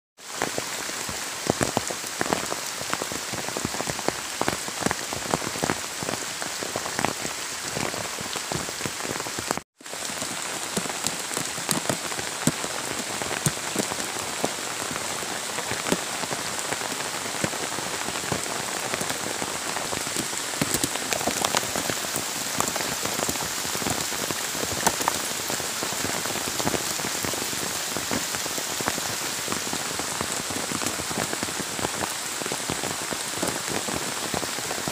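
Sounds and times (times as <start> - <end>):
rain falling on leaves: 0.2 - 34.9.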